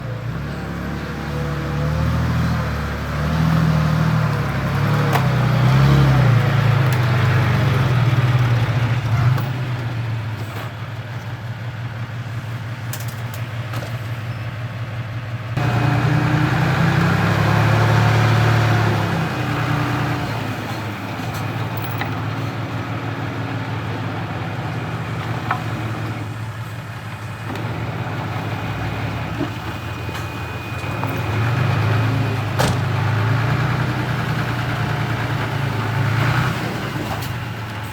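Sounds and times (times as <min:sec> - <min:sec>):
diesel engine revving under load: 0:00.0 - 0:11.0, 0:15.5 - 0:37.9.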